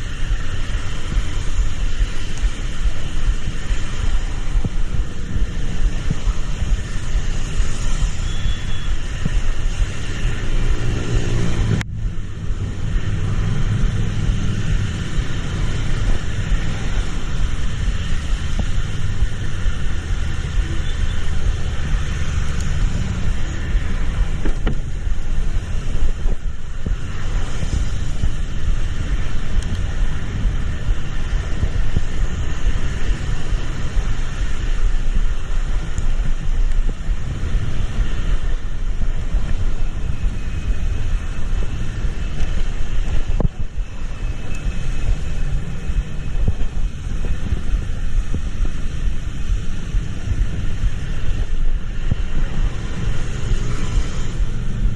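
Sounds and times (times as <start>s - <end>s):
vehicle wind and road noise: 0.0s - 54.9s.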